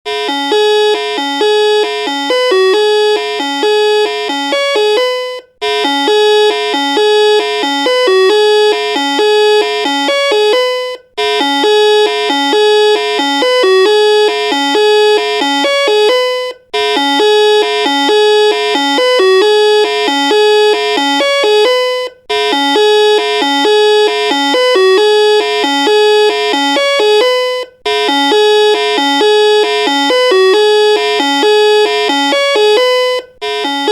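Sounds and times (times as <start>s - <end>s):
electronic doorbell jingly melody: 0.1s - 33.9s.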